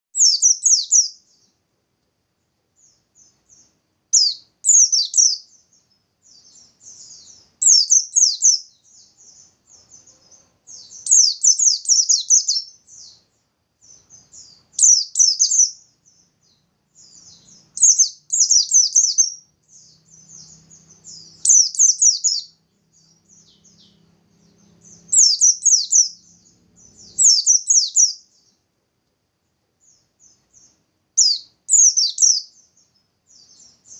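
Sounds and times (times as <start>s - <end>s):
soft bird twittering: 0.2s - 1.6s, 2.8s - 28.7s, 29.8s - 33.9s
white-eye bird burst song: 0.2s - 1.6s, 2.7s - 28.7s, 29.7s - 33.9s.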